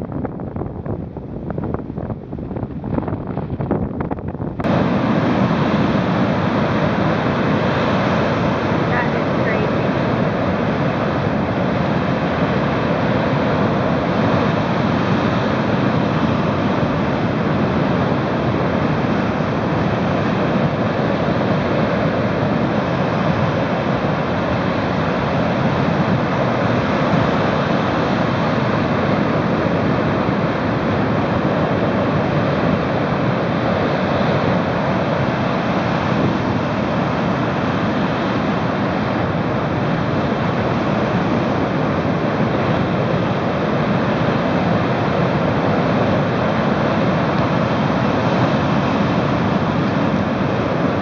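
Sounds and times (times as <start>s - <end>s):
strong wind: 0.0s - 51.0s
surf breaking on beach: 2.4s - 51.0s.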